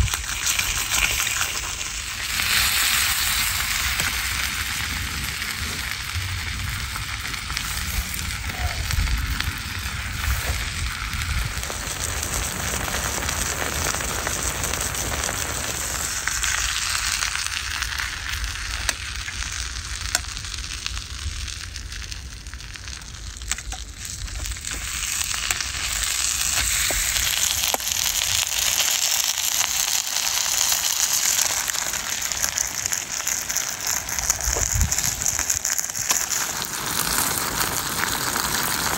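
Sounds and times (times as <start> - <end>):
crackles and pops: 0.0 - 38.9
food sizzling in a pan: 0.0 - 38.9.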